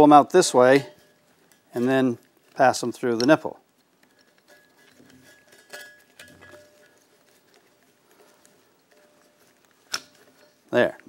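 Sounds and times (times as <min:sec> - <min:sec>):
wires clicking and rustling: 0:00.0 - 0:11.0.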